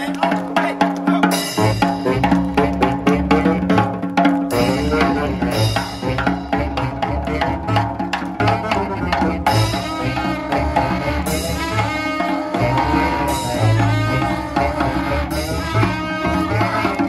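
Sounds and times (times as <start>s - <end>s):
saxophone and horns: 0.0s - 17.0s
jazz band playing: 0.8s - 17.0s
upright bass notes: 1.5s - 3.9s, 4.5s - 17.0s.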